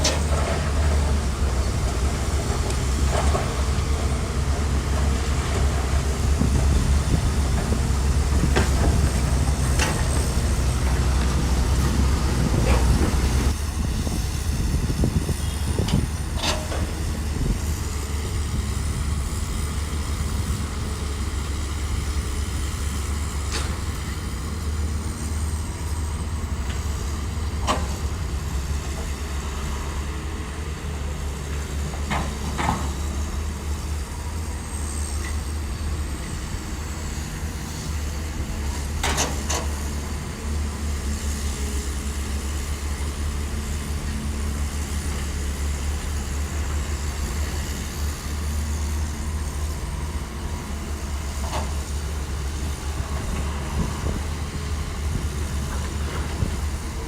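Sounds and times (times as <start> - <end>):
bulldozer diesel engine rumbling: 0.0 - 57.0.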